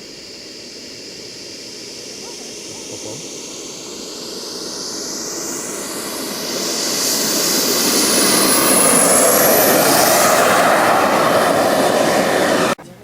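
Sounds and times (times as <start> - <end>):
high turbine whine: 0.0 - 12.8
model jet turbine rushing: 0.0 - 12.8.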